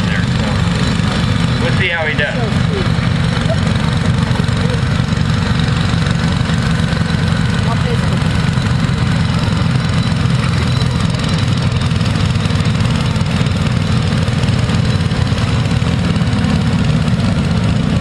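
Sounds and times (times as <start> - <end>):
tractor engine running under load: 0.0 - 18.0.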